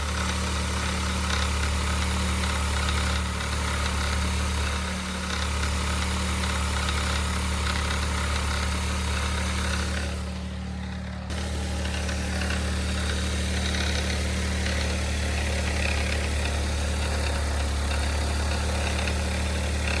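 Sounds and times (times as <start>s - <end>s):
engine rattle: 0.0s - 20.0s
small engine idling: 0.0s - 20.0s
whirring from engine: 0.0s - 20.0s.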